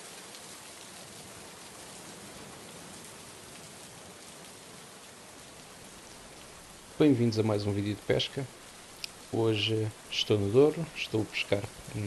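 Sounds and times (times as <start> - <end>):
heavy rain on a river: 0.0 - 12.0.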